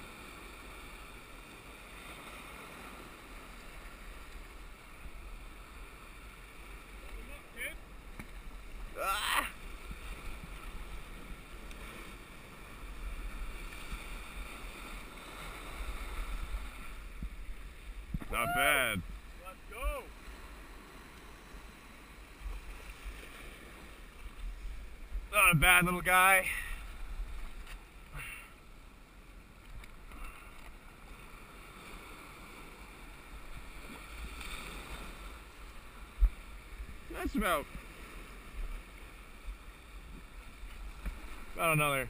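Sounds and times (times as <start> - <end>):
surf washing over rocks: 0.0 - 42.0.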